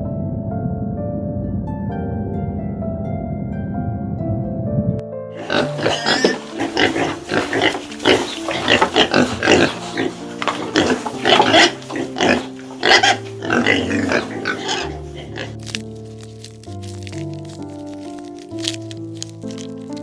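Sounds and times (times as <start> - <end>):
gentle background music: 0.0 - 20.0.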